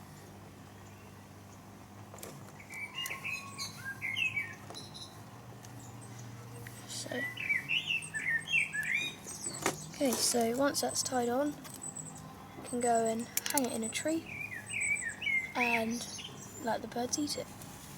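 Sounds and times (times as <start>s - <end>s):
small birds chirping: 0.0s - 17.8s.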